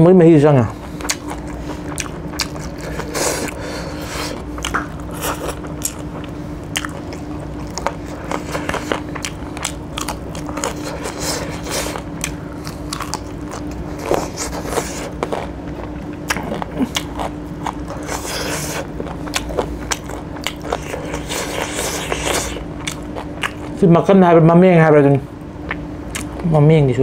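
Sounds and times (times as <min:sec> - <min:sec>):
faint steady hum: 0:00.0 - 0:27.0
chewing and biting food: 0:00.8 - 0:23.8, 0:25.6 - 0:26.5
wet mouth sounds: 0:01.0 - 0:23.7, 0:25.7 - 0:26.4.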